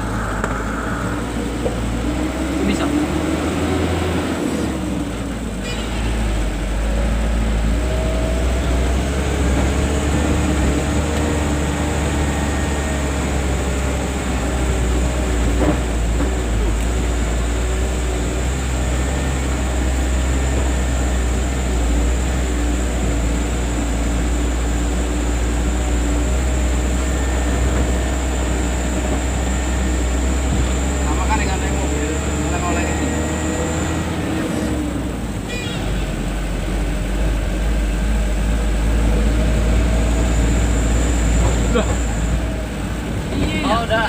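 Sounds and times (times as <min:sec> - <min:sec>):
truck engine drone: 0:00.0 - 0:44.0.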